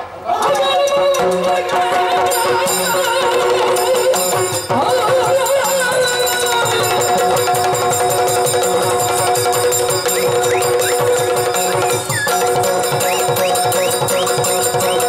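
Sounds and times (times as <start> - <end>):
fast drumming: 1.1 - 15.0.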